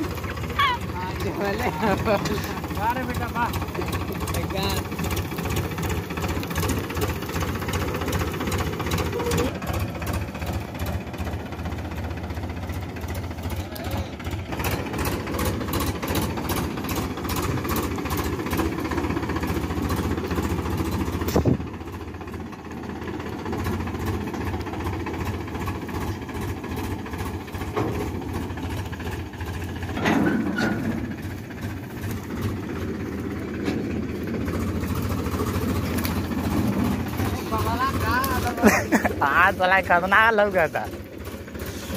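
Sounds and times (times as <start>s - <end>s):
diesel tractor engine running: 0.0s - 41.9s.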